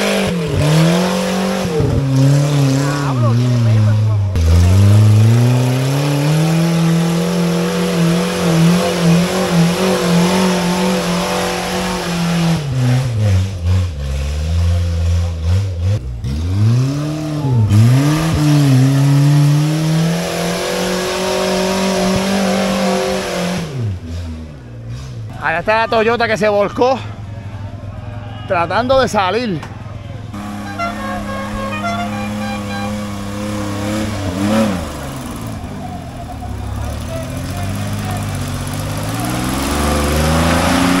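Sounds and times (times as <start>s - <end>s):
off-road vehicle engine revving: 0.0s - 41.0s.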